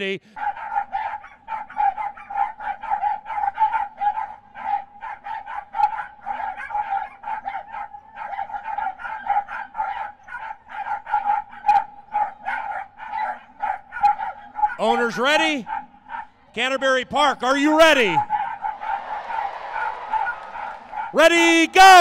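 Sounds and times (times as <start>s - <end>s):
dogs barking: 0.4s - 16.5s, 17.8s - 22.0s.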